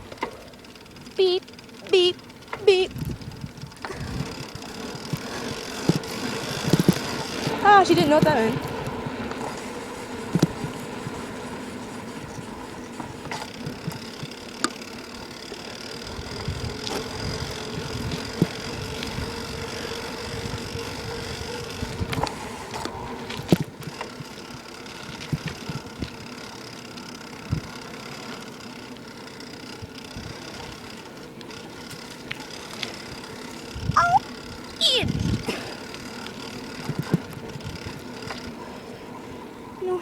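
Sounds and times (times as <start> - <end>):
bicycle rolling noise: 0.0 - 40.0.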